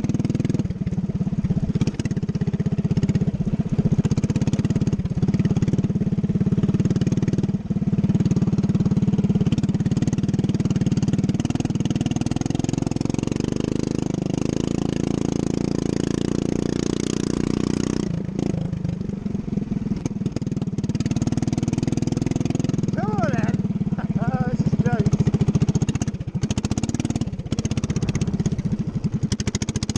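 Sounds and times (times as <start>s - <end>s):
lawn mower engine running hard: 0.0s - 29.9s.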